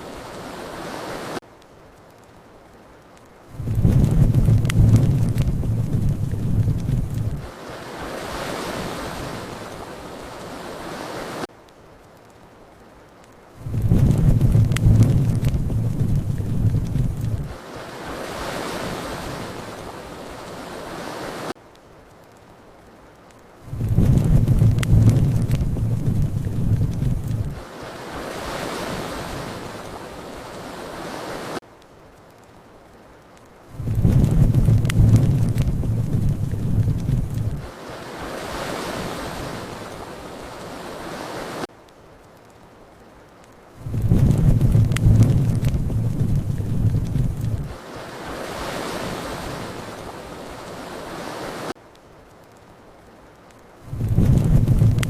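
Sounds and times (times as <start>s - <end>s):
fire crackles: 0.0s - 55.0s
steady rushing hiss: 0.0s - 55.0s.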